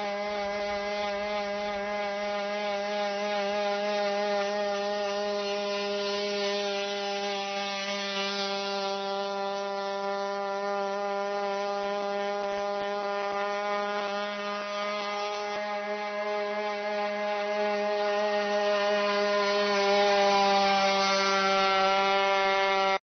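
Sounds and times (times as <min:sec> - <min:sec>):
engine buzzing drone: 0:00.0 - 0:23.0.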